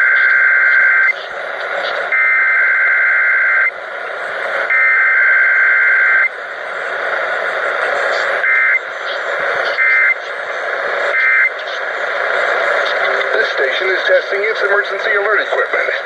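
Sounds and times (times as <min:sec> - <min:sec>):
radio static: 0:00.0 - 0:16.0.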